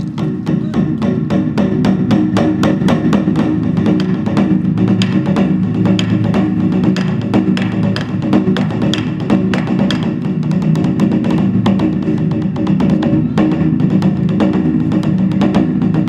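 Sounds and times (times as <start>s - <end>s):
fast drum strokes: 0.0s - 16.0s
sustained low instrumental tones: 0.0s - 16.0s.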